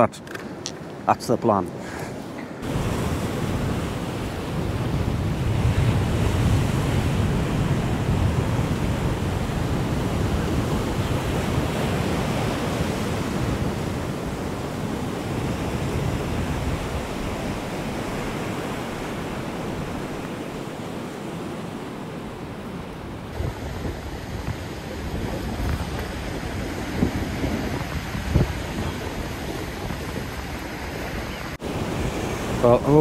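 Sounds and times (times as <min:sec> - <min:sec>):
waves breaking on rocky shore: 0:01.8 - 0:33.0
wind buffeting microphone: 0:02.5 - 0:33.0.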